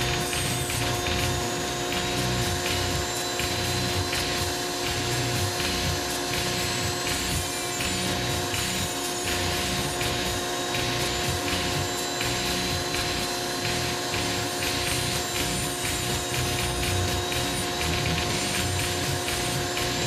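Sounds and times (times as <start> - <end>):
motor whine: 0.0 - 20.0
rotary tool grinding wood: 0.0 - 20.0.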